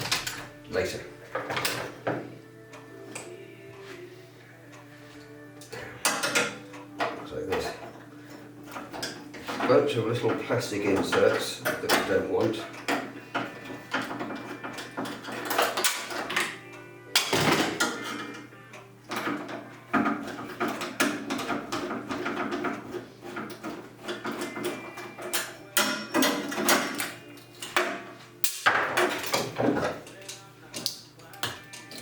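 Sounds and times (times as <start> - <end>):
plastic and metal parts clattering: 0.0 - 0.5, 1.3 - 2.3, 6.0 - 8.0, 8.7 - 18.5, 19.1 - 32.0
background music: 0.0 - 32.0.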